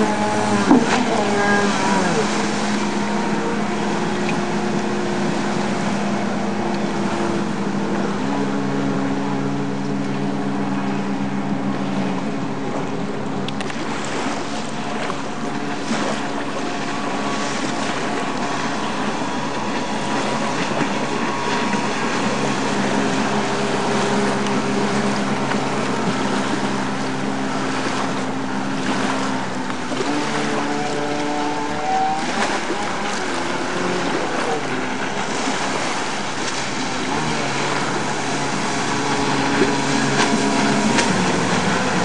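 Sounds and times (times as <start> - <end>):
personal watercraft engine: 0.0 - 42.0.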